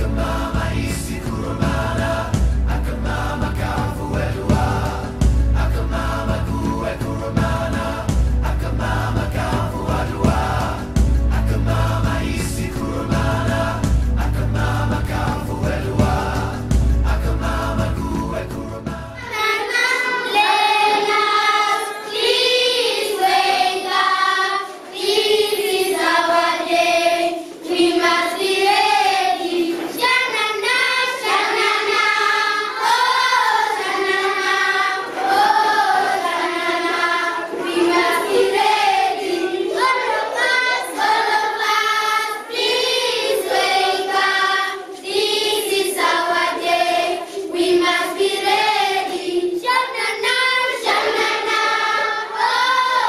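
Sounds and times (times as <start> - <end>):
choir of high voices singing: 0.0 - 53.0.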